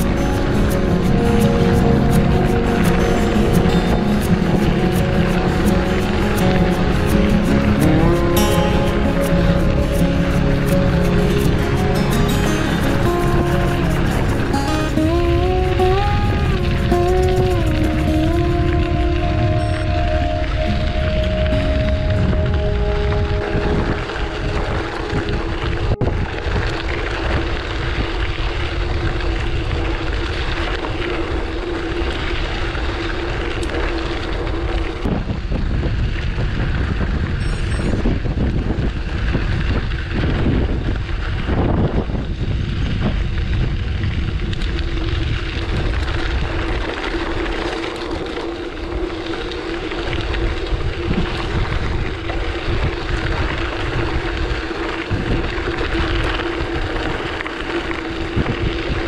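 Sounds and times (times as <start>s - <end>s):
bicycle rolling noise: 0.0s - 59.0s
wind buffeting microphone: 0.0s - 59.0s.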